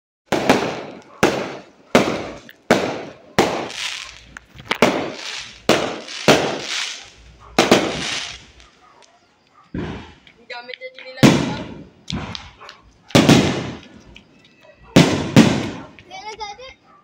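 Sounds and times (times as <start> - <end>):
fireworks bangs with echo: 0.3 - 9.0, 9.7 - 14.1, 14.8 - 16.1.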